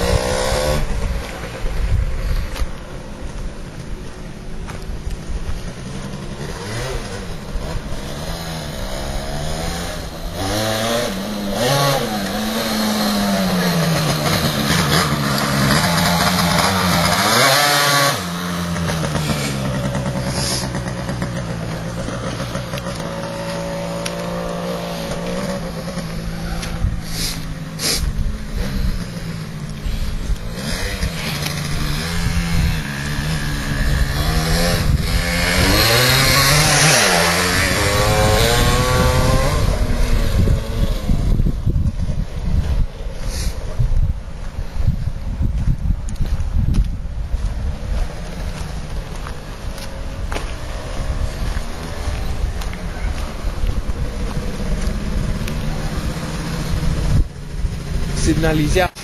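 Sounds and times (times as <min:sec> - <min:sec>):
moped engine revving: 0:00.0 - 0:59.0.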